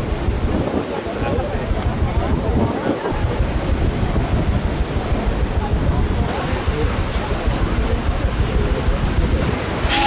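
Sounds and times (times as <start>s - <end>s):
water rushing along boat: 0.0s - 10.0s
wind rumbling on microphone: 0.0s - 10.0s.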